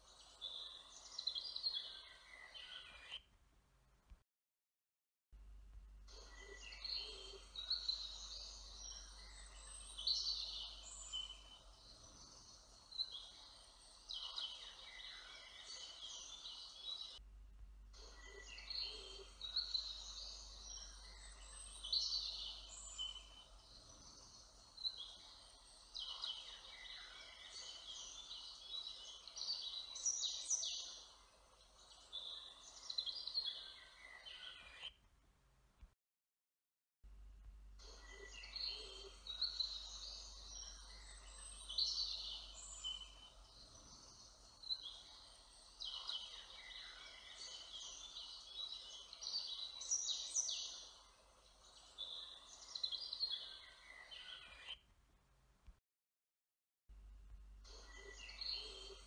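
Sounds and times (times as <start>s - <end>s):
songbirds chirping and trilling: 0.0s - 3.3s, 6.1s - 17.2s, 17.9s - 35.0s, 37.8s - 54.9s, 57.6s - 59.0s.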